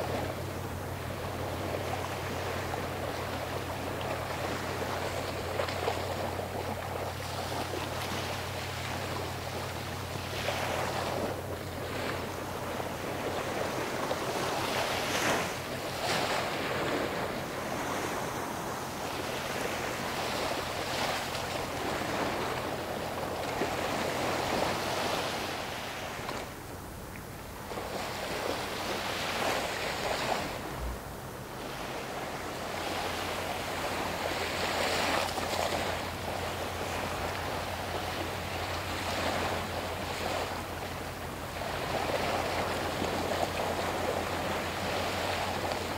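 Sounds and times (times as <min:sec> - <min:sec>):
low steady hum: 0:00.0 - 0:45.9
water washing at shore: 0:00.0 - 0:45.9
wind on microphone: 0:00.0 - 0:45.9.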